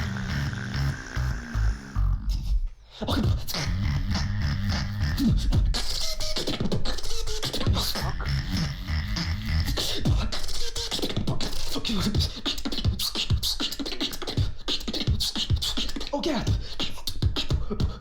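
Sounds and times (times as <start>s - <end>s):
beatboxing: 0.0s - 18.0s.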